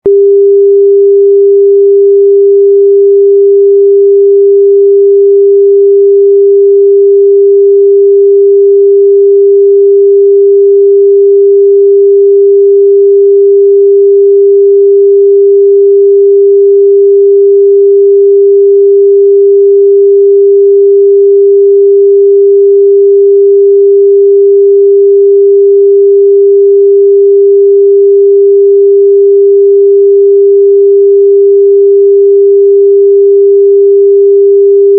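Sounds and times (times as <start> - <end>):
low sine tone: 0.0 - 34.9.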